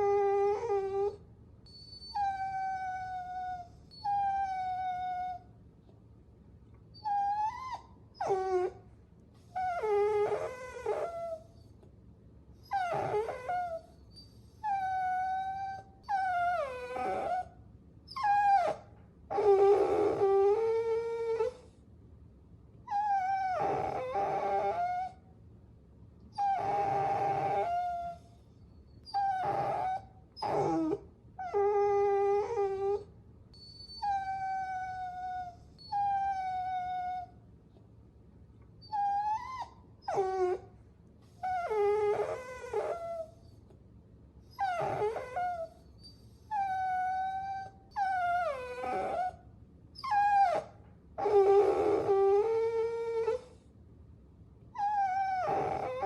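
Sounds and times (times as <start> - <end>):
puppies whining and whimpering: 0.0 - 5.4, 6.9 - 8.8, 9.4 - 11.7, 12.6 - 17.5, 18.1 - 21.7, 22.9 - 25.2, 26.3 - 37.4, 38.8 - 40.7, 41.3 - 43.6, 44.5 - 49.4, 50.0 - 53.6, 54.8 - 56.0.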